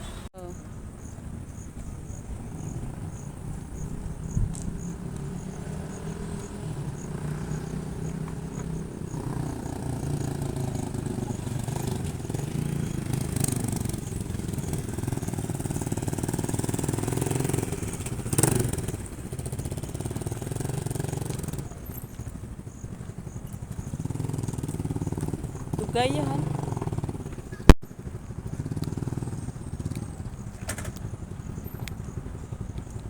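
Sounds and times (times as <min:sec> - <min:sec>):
road noise: 0:00.0 - 0:33.0
vehicle engine running: 0:00.0 - 0:33.0.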